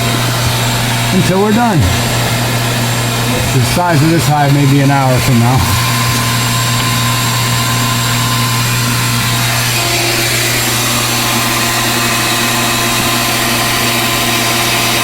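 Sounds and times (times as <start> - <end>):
bee vacuum running: 0.0 - 15.0.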